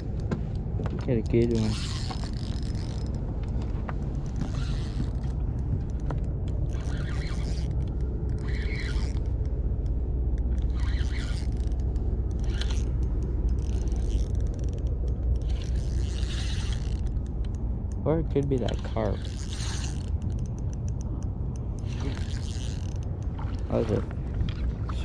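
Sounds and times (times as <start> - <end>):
steady low rumble: 0.0 - 25.0
fishing reel gears whirring: 1.1 - 24.7.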